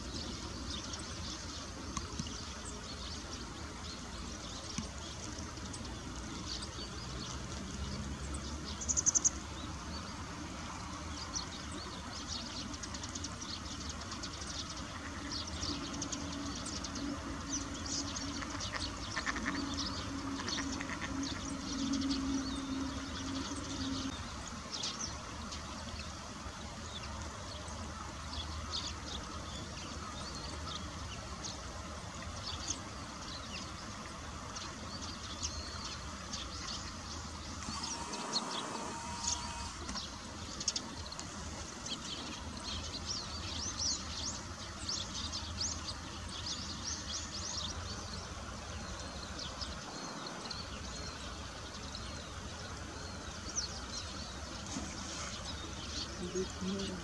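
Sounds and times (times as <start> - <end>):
flowing river water: 0.0 - 57.0.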